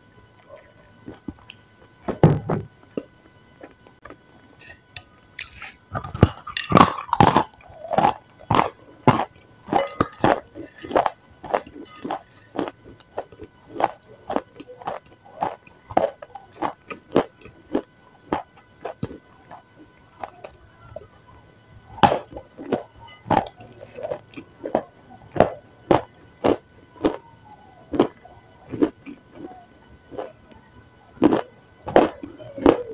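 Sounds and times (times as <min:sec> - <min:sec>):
person chewing wet food: 0:00.4 - 0:02.0, 0:02.9 - 0:32.9.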